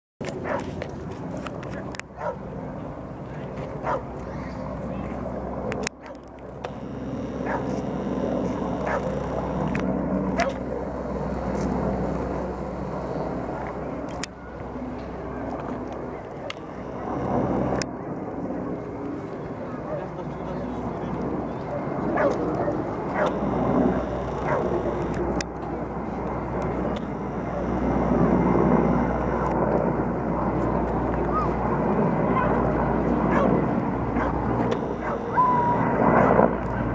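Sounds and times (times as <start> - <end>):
distant helicopter drone: 0.2 - 36.9.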